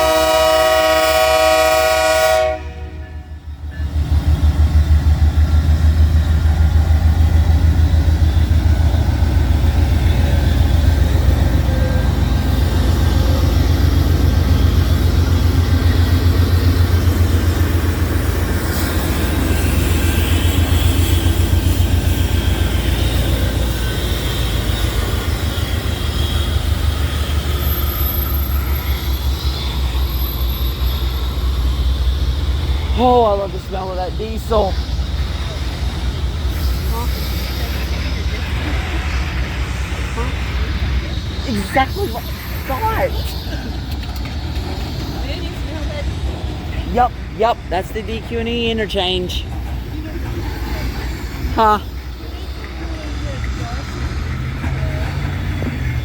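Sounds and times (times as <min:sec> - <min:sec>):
diesel locomotive engine throbbing: 0:00.0 - 0:56.0.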